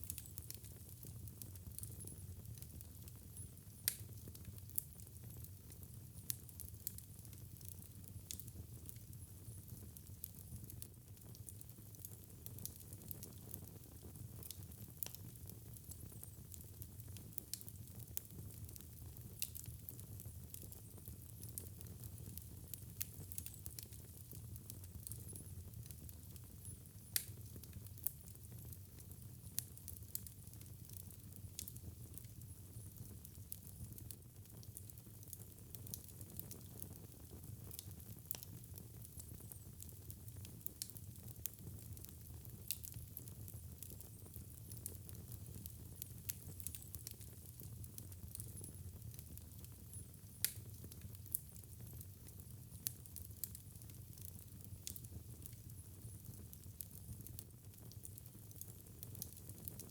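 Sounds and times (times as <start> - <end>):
fire crackling and popping: 0.0 - 59.9
low rumble of burning: 0.0 - 59.9.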